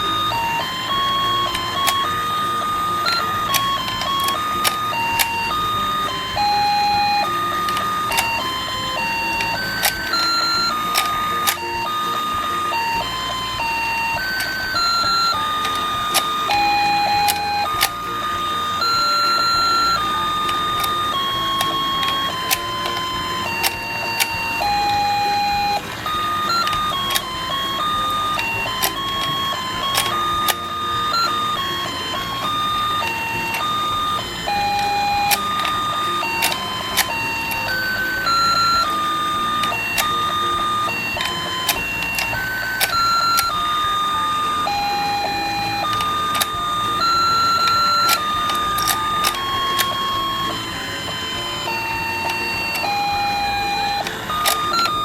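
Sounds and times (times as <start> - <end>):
electronic beeping tune: 0.0 - 55.0
mechanical whir: 0.0 - 55.0
sharp plastic clicks: 0.0 - 55.0.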